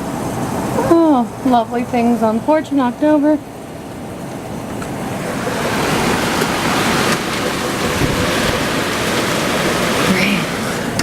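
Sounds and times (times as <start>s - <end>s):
heavy rain in strong wind: 0.0s - 11.0s.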